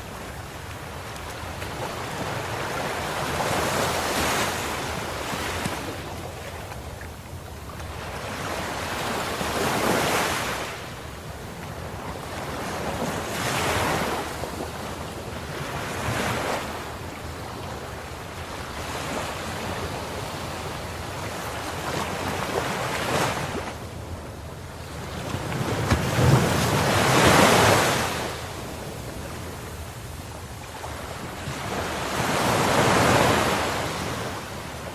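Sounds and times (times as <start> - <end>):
waves breaking: 0.0 - 34.9.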